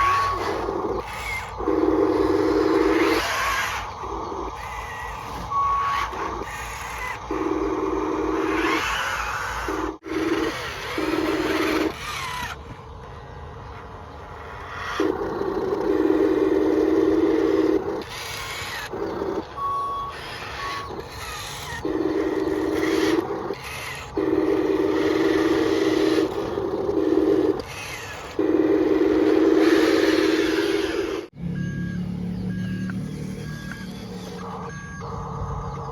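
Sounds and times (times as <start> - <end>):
model machine motors whirring: 0.0 - 31.4.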